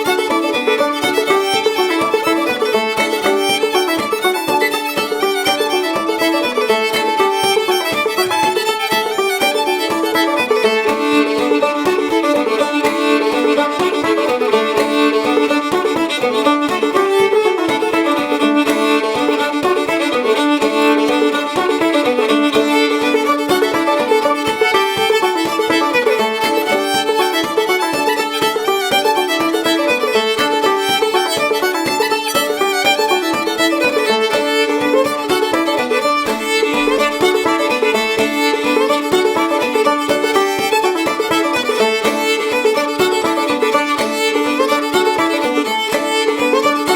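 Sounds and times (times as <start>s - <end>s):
banjo picking: 0.0s - 46.9s
fiddle melody: 0.0s - 46.9s.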